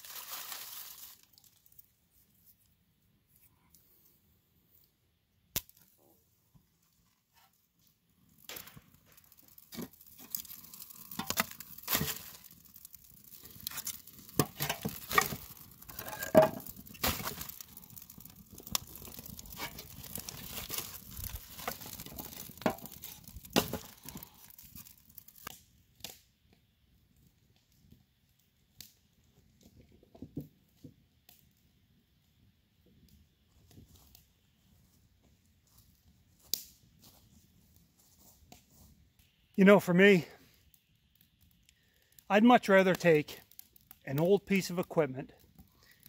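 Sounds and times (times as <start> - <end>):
fire crackling and popping: 0.0 - 46.0.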